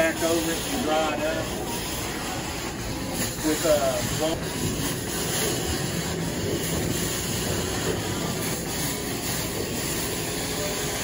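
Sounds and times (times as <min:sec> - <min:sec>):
hissing water spray: 0:00.0 - 0:11.0
vacuum suction rushing: 0:01.5 - 0:10.8.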